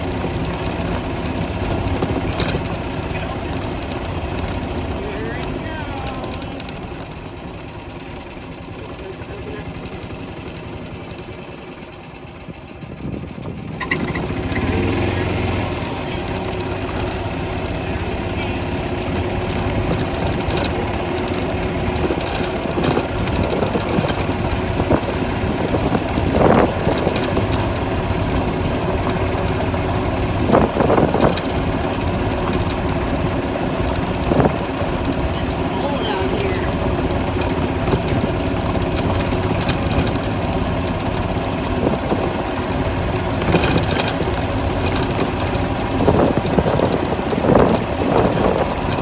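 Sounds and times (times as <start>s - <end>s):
golf cart driving on gravel: 0.0s - 49.0s.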